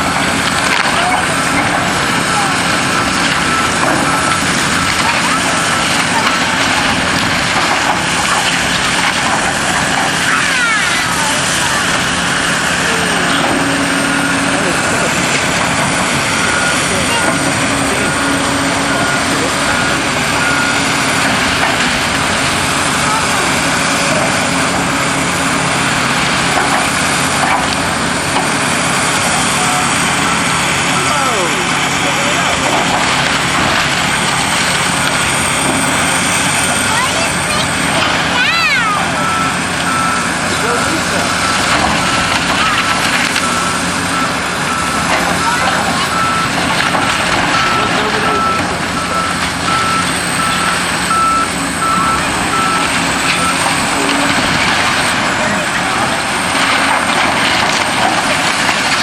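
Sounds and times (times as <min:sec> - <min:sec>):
reversing alarm beeping: 0:00.0 - 0:27.2, 0:28.3 - 0:59.0
debris crackling and crunching: 0:00.0 - 0:59.0
demolition noise: 0:00.0 - 0:59.0
diesel engine running: 0:00.0 - 0:59.0.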